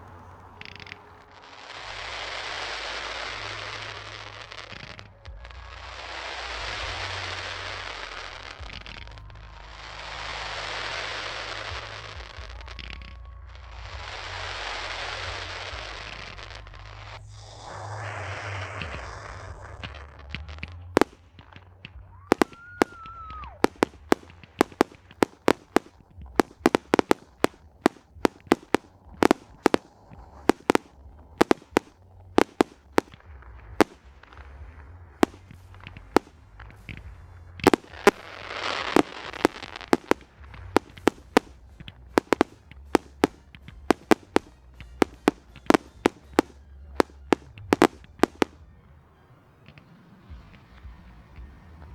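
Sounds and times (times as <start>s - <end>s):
fireworks bangs: 0.0s - 13.2s, 18.8s - 51.9s
firework whistle: 0.0s - 21.5s, 22.1s - 33.2s, 33.8s - 34.5s, 35.2s - 37.0s, 37.6s - 48.6s
fireworks hissing: 0.0s - 48.8s.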